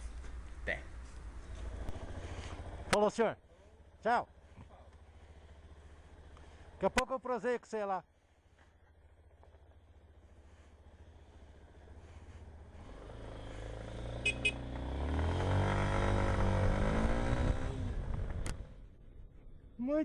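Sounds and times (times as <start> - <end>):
motorcycle engine: 0.0 - 7.0, 8.1 - 19.7.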